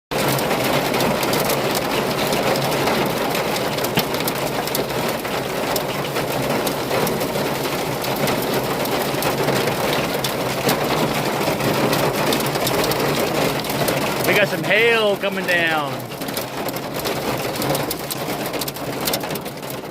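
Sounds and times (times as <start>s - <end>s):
hail pelting a van roof: 0.1s - 19.9s.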